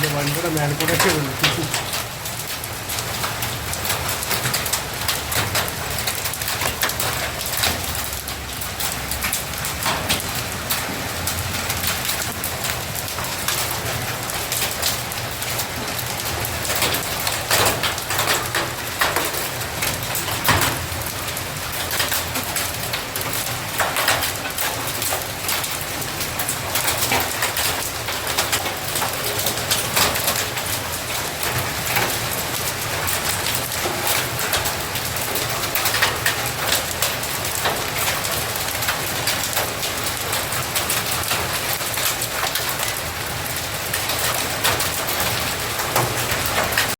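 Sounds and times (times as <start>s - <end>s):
hailstones ticking on hard surfaces: 0.0s - 46.9s
heavy rain hissing: 0.0s - 46.9s.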